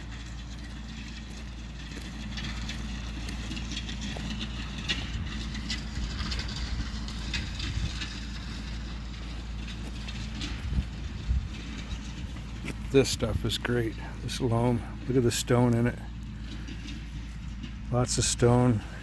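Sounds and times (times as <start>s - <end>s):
stones clattering on metal discs: 0.0s - 19.0s
tractor engine running: 0.0s - 19.0s.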